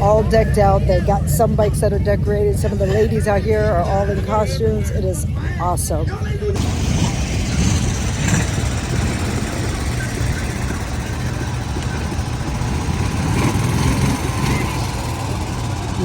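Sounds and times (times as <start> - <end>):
motorcycle engines idling: 0.0 - 16.0.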